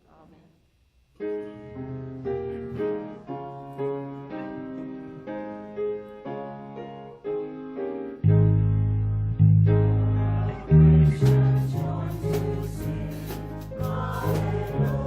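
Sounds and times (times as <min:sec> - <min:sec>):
slow piano notes and chords: 0:01.2 - 0:15.0.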